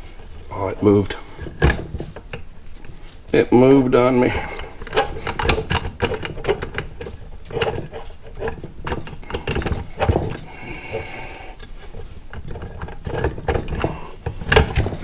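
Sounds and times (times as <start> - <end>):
metal clinks and knocks: 0.0 - 15.0
metallic scraping rattle: 0.0 - 15.0.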